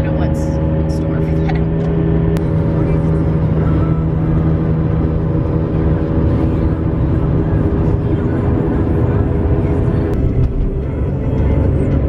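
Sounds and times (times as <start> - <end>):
car cabin low hum: 0.0 - 12.0
road rumble: 0.0 - 12.0.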